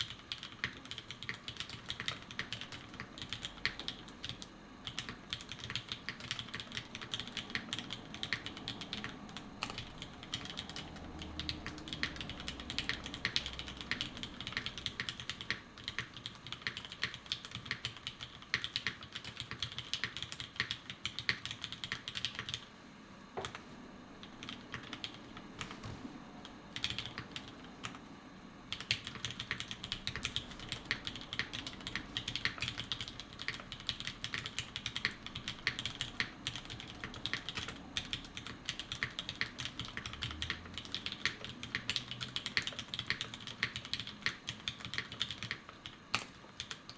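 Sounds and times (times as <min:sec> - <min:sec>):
fast mechanical keyboard typing: 0:00.0 - 0:22.7, 0:23.4 - 0:23.6, 0:24.2 - 0:28.1, 0:28.7 - 0:46.9.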